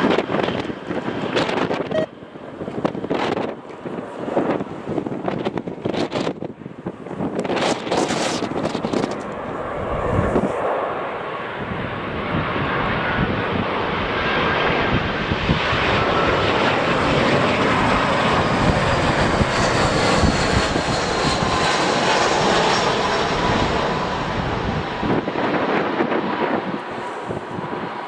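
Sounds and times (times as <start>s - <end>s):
airliner engines passing close: 0.0s - 28.0s
strong wind: 0.0s - 28.0s.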